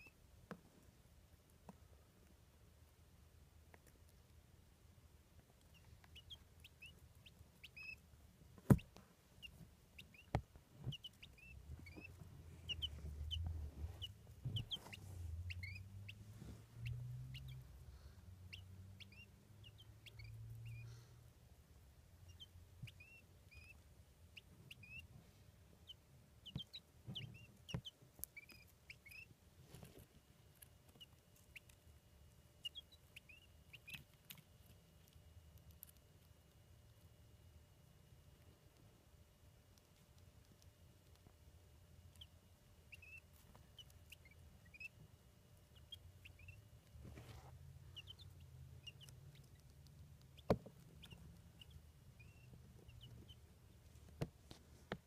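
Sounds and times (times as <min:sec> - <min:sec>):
quail chicks peeping: 0:00.0 - 0:00.8, 0:05.3 - 0:55.0.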